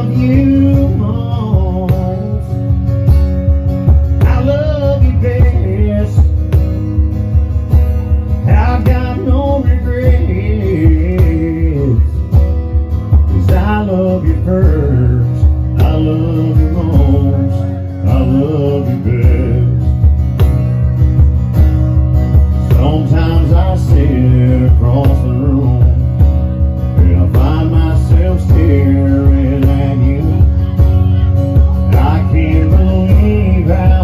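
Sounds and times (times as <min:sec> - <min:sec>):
man singing: 0:00.0 - 0:07.0, 0:08.1 - 0:20.2, 0:22.5 - 0:34.0
acoustic guitar strumming: 0:00.0 - 0:34.0
percussion beat: 0:00.0 - 0:34.0.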